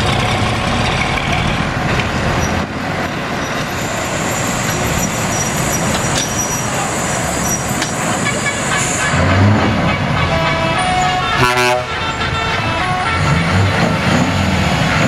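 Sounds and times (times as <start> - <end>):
diesel truck engine pulling away: 0.0 - 15.0.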